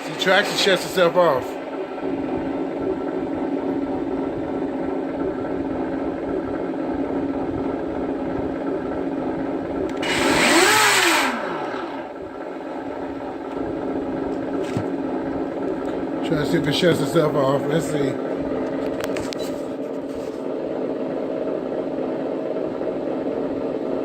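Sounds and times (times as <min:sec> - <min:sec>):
simulated engine idling with rev blip: 0:00.0 - 0:19.5.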